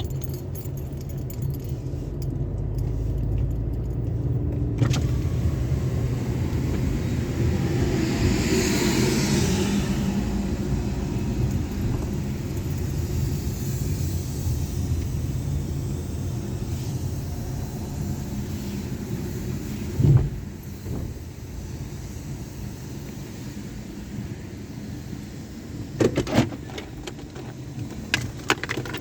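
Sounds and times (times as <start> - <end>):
car wash water spray rumble: 1.8 - 29.0.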